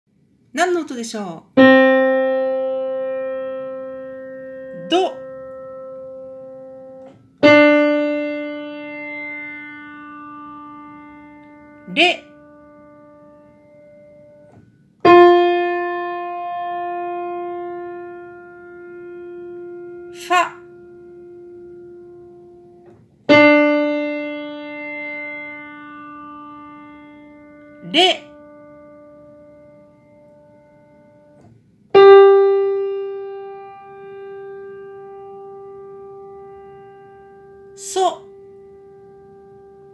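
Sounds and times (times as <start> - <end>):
faint piano note damped: 1.5 - 39.9
piano note ringing: 1.5 - 39.9.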